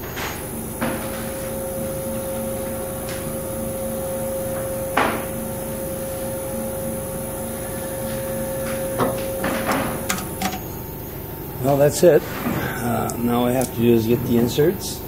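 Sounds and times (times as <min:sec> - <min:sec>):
spindle motor humming: 0:00.0 - 0:15.0.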